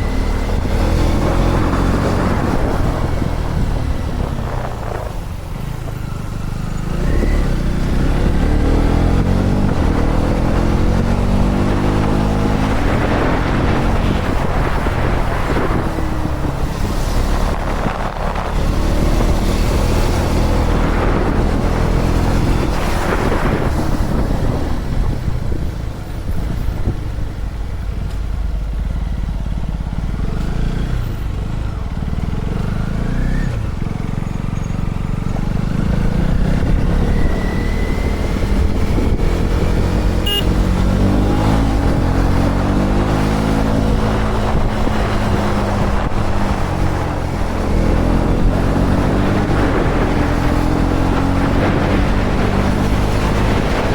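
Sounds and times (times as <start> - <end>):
motorcycle engine revving: 0.0 - 27.5, 28.6 - 53.9
wind rumble on microphone: 0.0 - 53.9.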